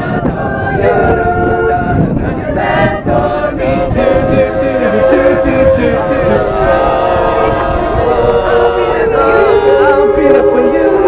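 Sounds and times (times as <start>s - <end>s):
choir singing a cappella: 0.0s - 11.0s
wind rumbling on microphone: 0.0s - 11.0s.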